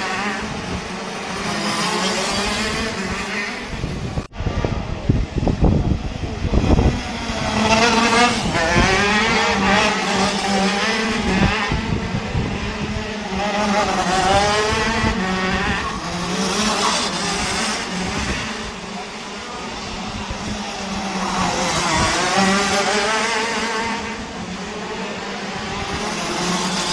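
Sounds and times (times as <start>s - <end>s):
go-kart engines revving: 0.0s - 26.9s.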